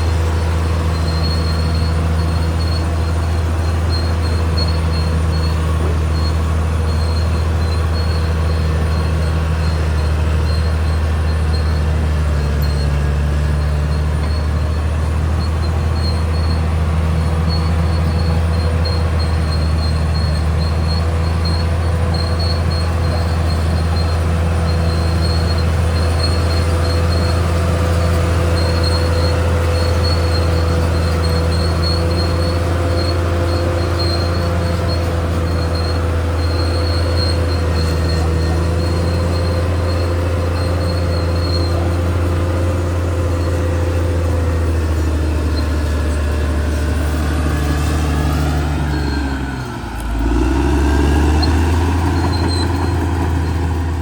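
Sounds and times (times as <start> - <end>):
bulldozer engine drone: 0.0 - 54.0.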